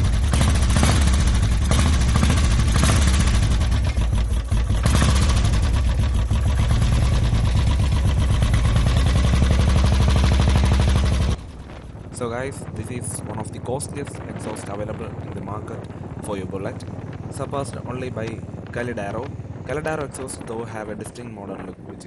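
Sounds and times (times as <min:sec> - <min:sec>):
motorcycle engine running: 0:00.0 - 0:21.2.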